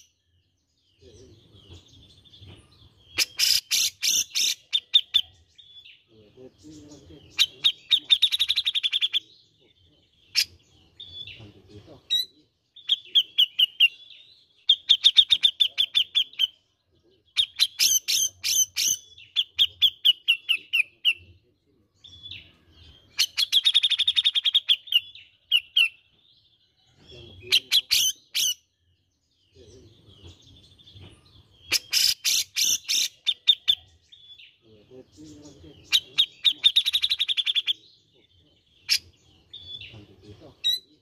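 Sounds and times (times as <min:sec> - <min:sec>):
bird singing chattering notes: 0:00.0 - 0:41.0.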